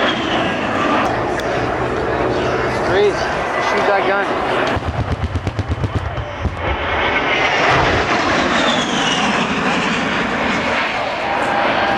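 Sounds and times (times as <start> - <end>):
jet flying past: 0.0 - 11.9.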